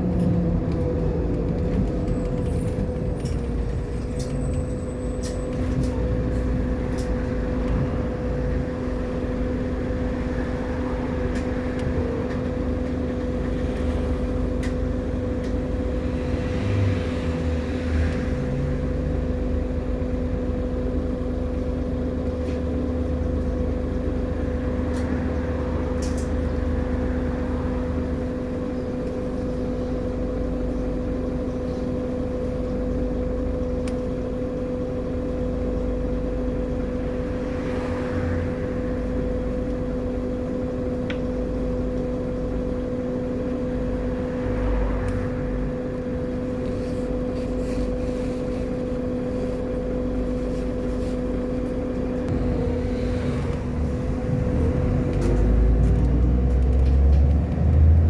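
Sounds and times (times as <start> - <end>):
bus droning hum: 0.0 - 58.0.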